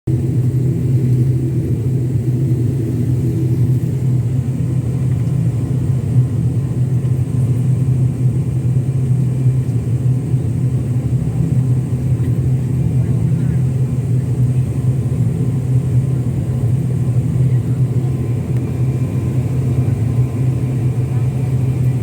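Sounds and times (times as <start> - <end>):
airliner cabin hum and rumble: 0.1 - 22.0.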